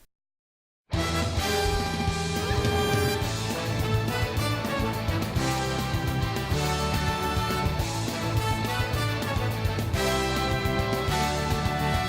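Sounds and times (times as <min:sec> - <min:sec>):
background music with steady beat: 0:00.9 - 0:12.0.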